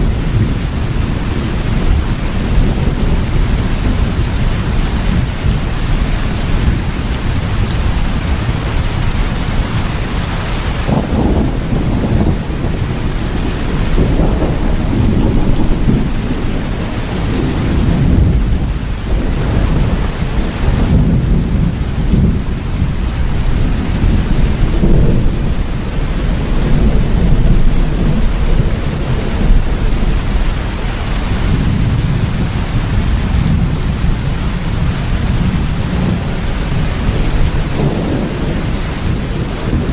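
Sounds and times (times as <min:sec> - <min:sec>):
heavy rain: 0:00.0 - 0:39.9
rolling thunder: 0:00.0 - 0:39.9.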